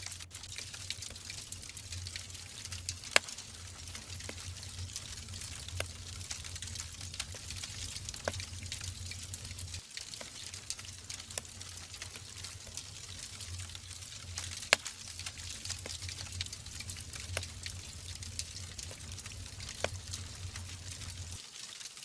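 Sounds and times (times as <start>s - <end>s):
fire hissing: 0.0s - 21.4s
logs crackling and popping: 0.0s - 22.0s.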